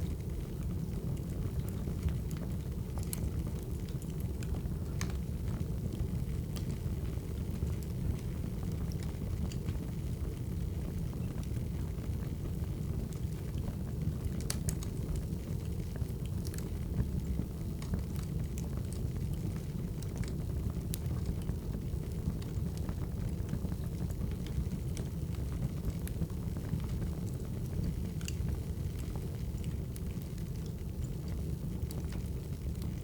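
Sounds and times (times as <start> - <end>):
wood fire rumble: 0.0 - 33.0
fire crackling and popping: 0.1 - 33.0.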